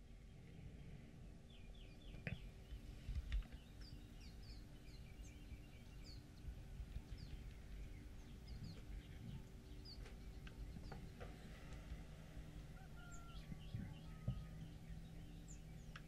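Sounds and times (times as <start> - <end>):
faint bird chirps: 0.0 - 16.0
steady hum: 0.0 - 16.0.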